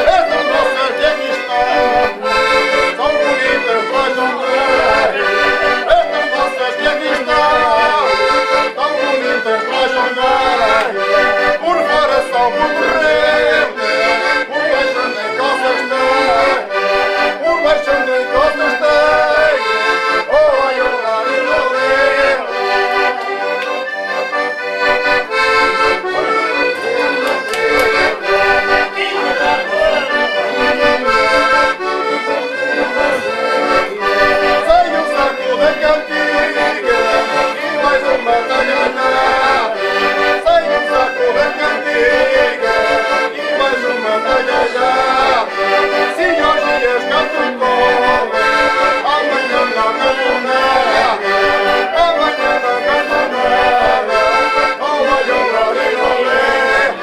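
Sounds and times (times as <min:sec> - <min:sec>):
button accordions playing folk tune: 0:00.0 - 0:57.0.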